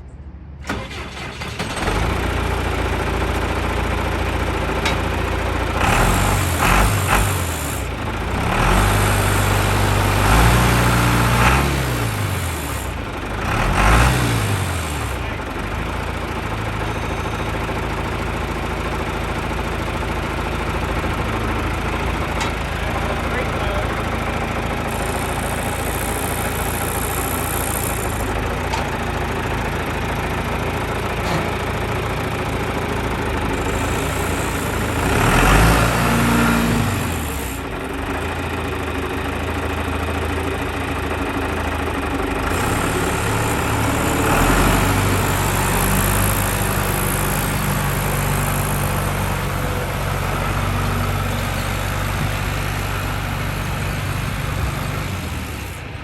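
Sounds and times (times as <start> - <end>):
tractor diesel engine running: 0.4 - 56.0.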